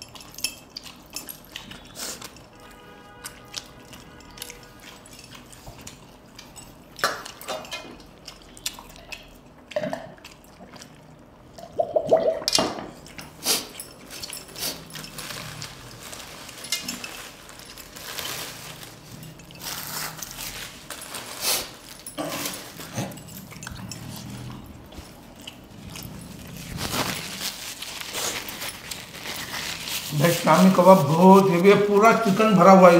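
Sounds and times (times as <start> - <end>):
wet chewing: 0.0 - 32.4.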